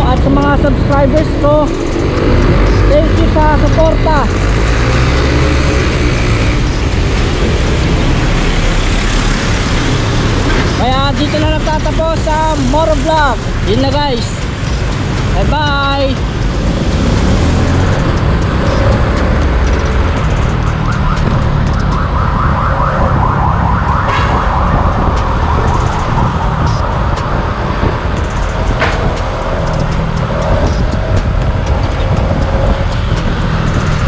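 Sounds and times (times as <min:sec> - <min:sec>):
traffic noise: 0:00.0 - 0:34.0
wind noise: 0:00.0 - 0:34.0.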